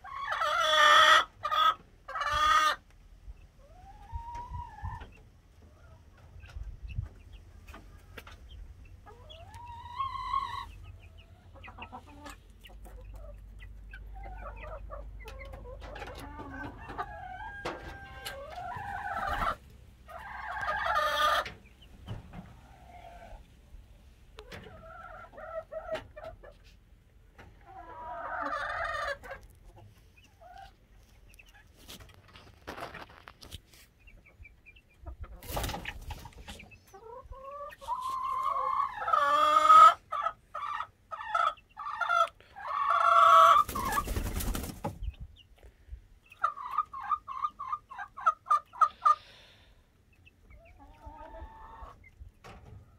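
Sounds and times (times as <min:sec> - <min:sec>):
chicks peeping and clucking: 0:00.0 - 0:52.9.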